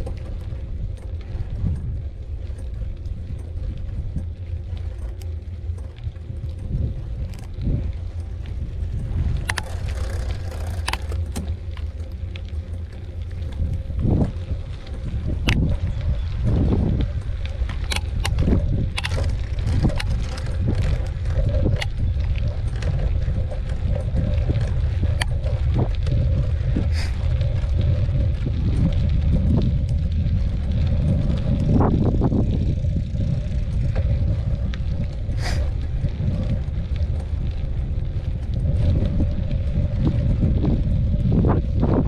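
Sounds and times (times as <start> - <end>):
bike clicks and rattles: 0.0 - 42.0
wind buffeting microphone: 0.0 - 42.0.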